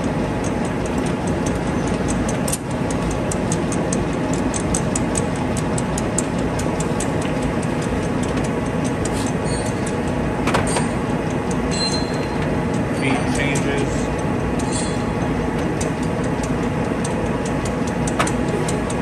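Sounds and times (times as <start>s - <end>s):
lathe running drone: 0.0s - 19.0s
light mechanical ticking: 0.0s - 19.0s.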